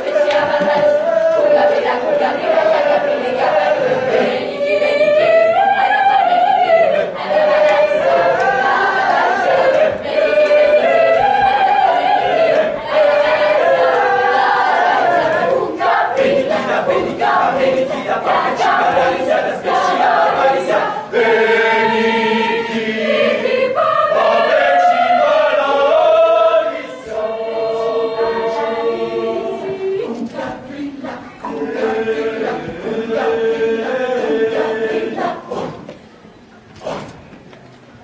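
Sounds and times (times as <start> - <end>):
choir singing long notes: 0.0 - 36.1.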